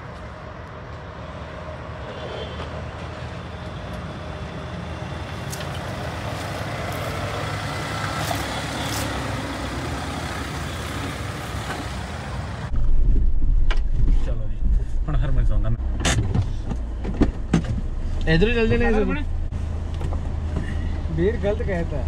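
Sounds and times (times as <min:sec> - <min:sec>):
car engine at low speed: 0:03.2 - 0:22.0.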